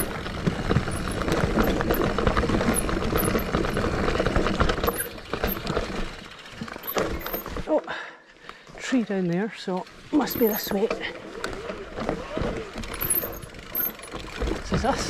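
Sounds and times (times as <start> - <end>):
bike rattling: 0.0 - 7.7, 8.5 - 15.0
bike tyres on dirt trail: 0.0 - 15.0.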